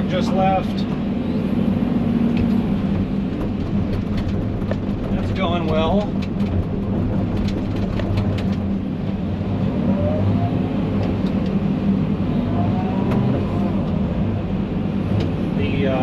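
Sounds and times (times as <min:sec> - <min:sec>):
heavy equipment engine droning: 0:00.0 - 0:16.0.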